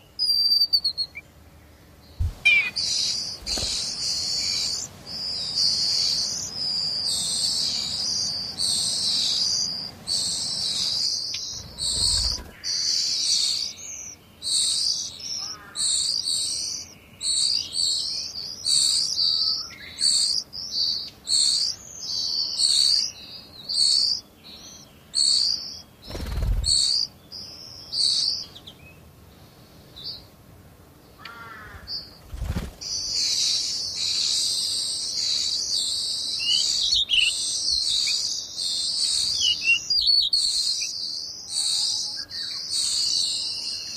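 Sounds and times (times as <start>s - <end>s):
nestlings chirping: 0.0s - 30.3s, 31.2s - 43.9s.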